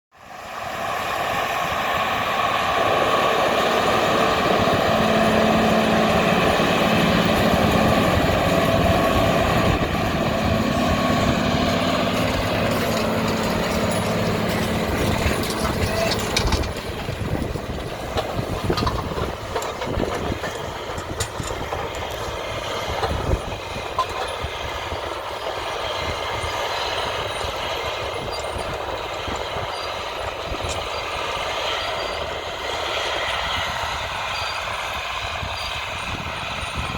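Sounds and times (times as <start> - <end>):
diesel tractor engines running: 0.2 - 36.9.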